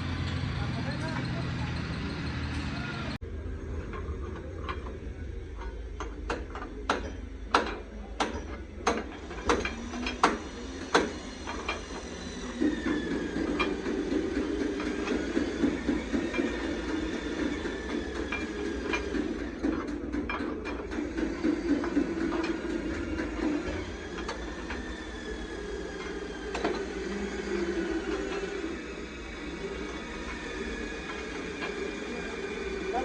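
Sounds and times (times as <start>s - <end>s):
machine running with faint whine: 0.0s - 33.0s.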